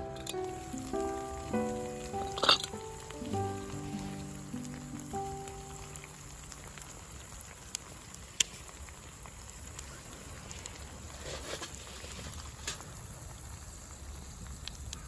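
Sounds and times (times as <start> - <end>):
fire crackling: 0.0 - 15.0
fire popping: 0.0 - 15.0
soft steady hiss: 0.0 - 15.0.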